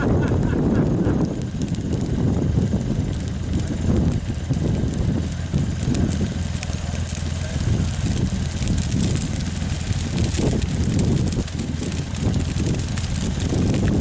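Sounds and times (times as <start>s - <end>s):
fire crackling: 0.0s - 14.0s
wind buffeting microphone: 0.0s - 14.0s.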